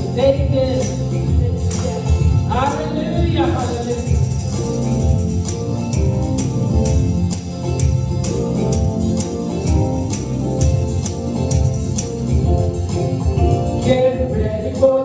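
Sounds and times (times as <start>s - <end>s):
upbeat gospel music: 0.0s - 15.0s.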